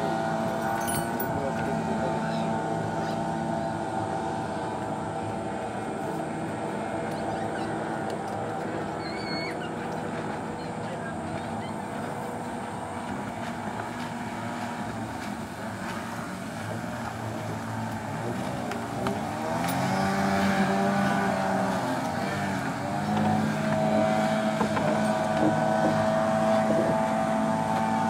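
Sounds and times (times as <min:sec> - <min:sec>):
outboard motor at high revs: 0:00.0 - 0:28.0.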